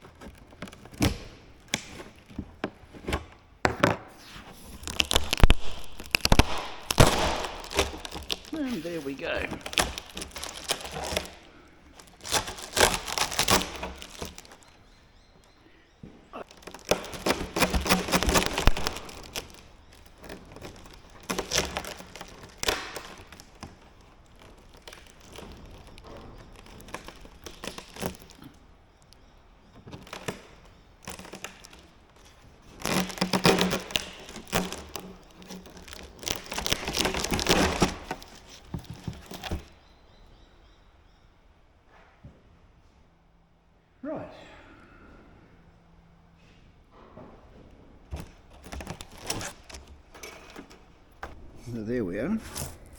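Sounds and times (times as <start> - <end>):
packaging crinkling and crackling: 0.0 - 3.4, 4.4 - 40.1, 48.1 - 51.4.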